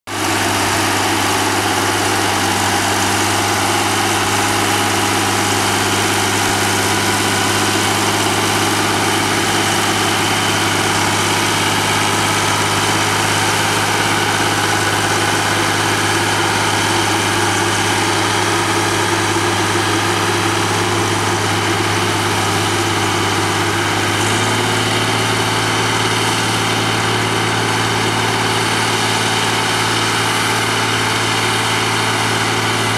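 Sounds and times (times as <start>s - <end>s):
tractor diesel engine running: 0.1s - 32.9s.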